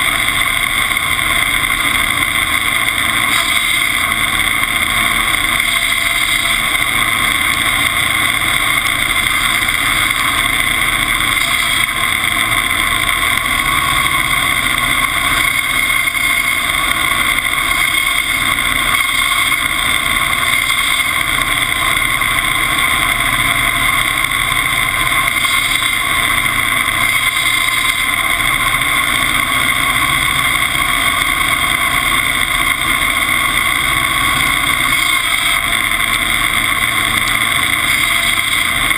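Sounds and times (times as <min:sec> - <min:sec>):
engine running under load: 0:00.0 - 0:38.9.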